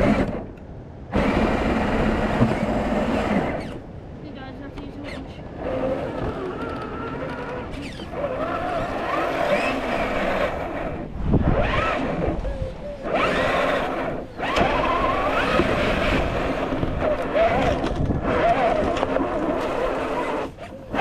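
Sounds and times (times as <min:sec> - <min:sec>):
toy car electric motor whining: 0:00.0 - 0:00.5, 0:01.1 - 0:03.8, 0:05.1 - 0:21.0.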